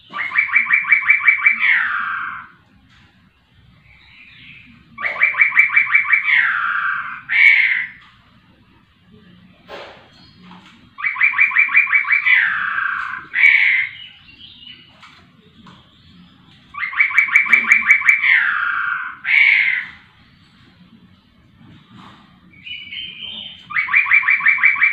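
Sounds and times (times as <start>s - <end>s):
caged bird singing: 0.0s - 24.9s.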